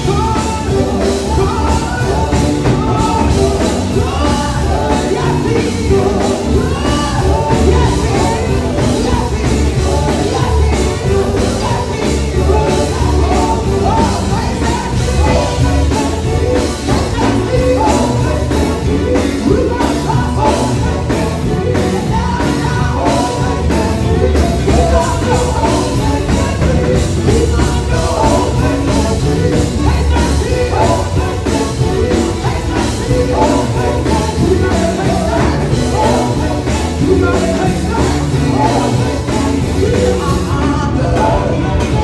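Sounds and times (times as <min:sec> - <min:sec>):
band with drums and guitars: 0:00.0 - 0:42.0.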